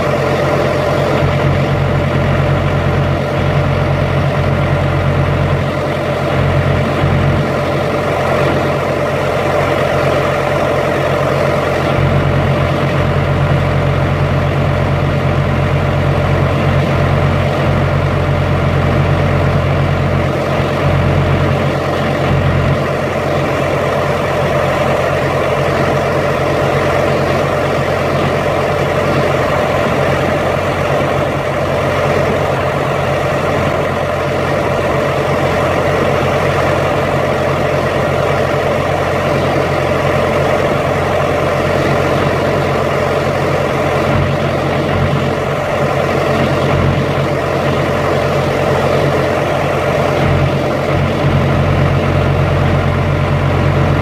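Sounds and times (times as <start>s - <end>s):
diesel engine droning: 0.0s - 54.0s
steady higher hum: 0.0s - 54.0s.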